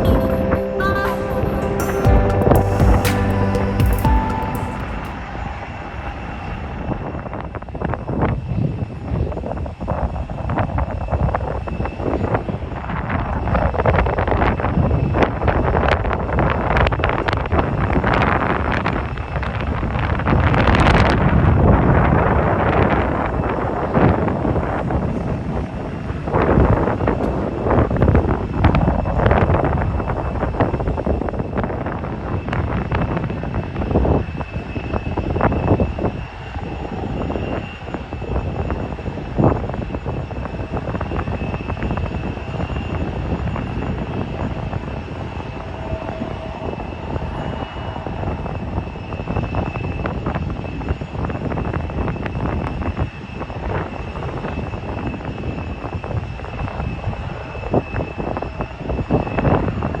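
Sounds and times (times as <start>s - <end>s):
airliner engines roaring: 0.0s - 60.0s
wind buffeting microphone: 5.0s - 60.0s.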